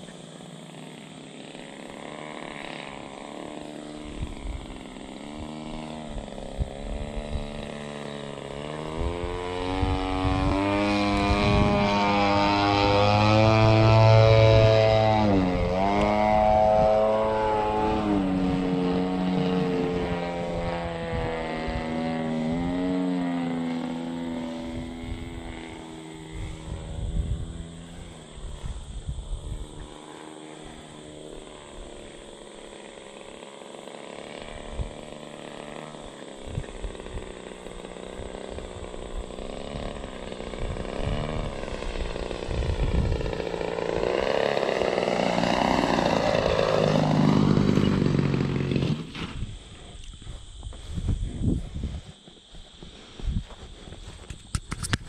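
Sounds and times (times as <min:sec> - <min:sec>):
model plane propeller and motor: 0:00.0 - 0:55.0
wind rumbling on microphone: 0:03.9 - 0:30.0, 0:34.4 - 0:55.0.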